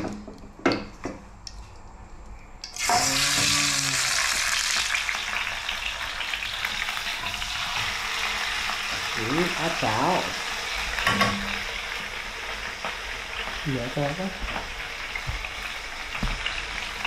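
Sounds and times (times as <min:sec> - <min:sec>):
meat sizzling in hot oil: 0:02.7 - 0:17.0.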